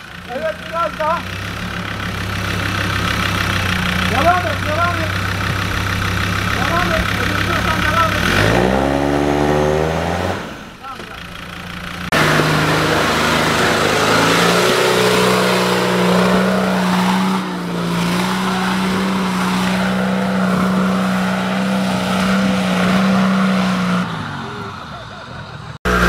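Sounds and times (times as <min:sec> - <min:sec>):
diesel engine at high revs: 0:00.0 - 0:26.0.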